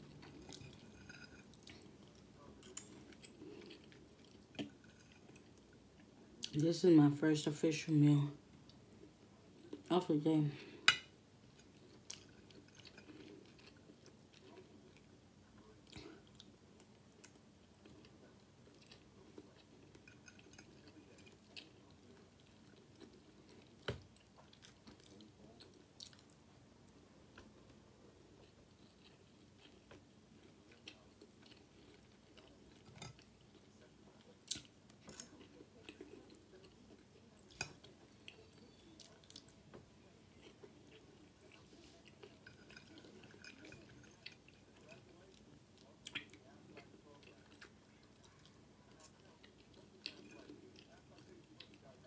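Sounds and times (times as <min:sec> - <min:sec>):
chewing rice: 0:00.0 - 0:06.6, 0:11.4 - 0:52.0.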